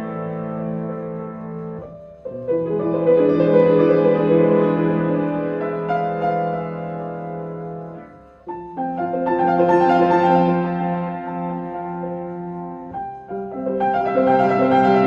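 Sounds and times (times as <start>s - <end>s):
classical piano music: 0.0s - 15.0s.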